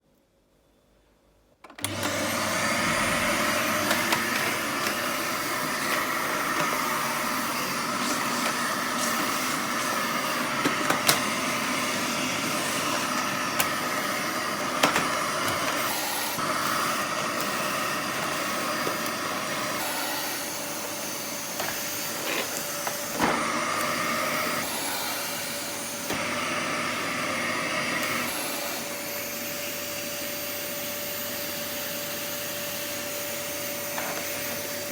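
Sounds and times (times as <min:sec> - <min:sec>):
vacuum cleaner running: 0:01.7 - 0:34.9.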